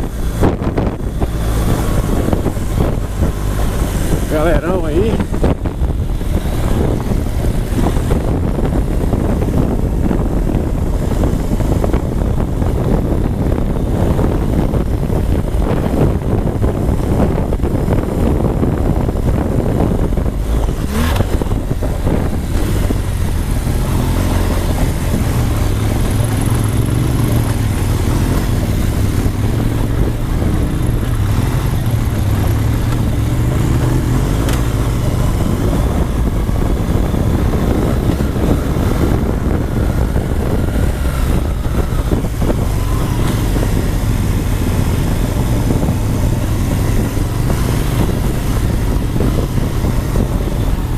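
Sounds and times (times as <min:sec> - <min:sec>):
motorcycle engine running: 0:00.0 - 0:50.9
noisy rush: 0:00.0 - 0:50.9.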